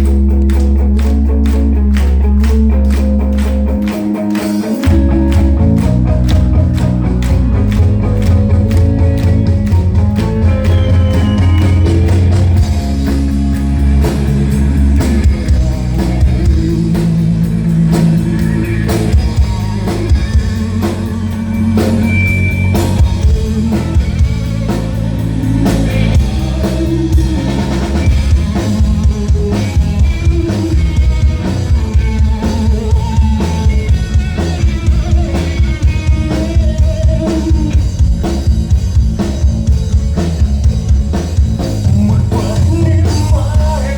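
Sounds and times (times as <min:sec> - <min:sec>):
drum kit beat: 0:00.0 - 0:43.9
electric guitars: 0:00.0 - 0:43.9
rock band playing live: 0:00.0 - 0:43.9.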